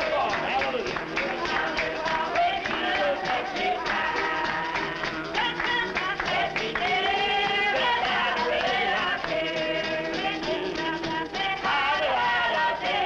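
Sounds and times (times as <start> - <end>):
congregation singing a hymn: 1.0 - 5.0, 6.1 - 13.0.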